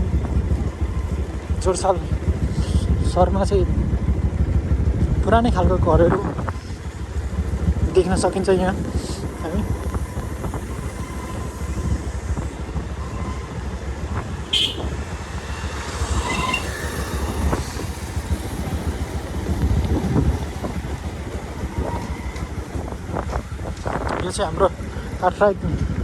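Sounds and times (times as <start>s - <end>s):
motorcycle engine rumble: 0.0s - 26.0s
wind noise on microphone: 0.0s - 26.0s.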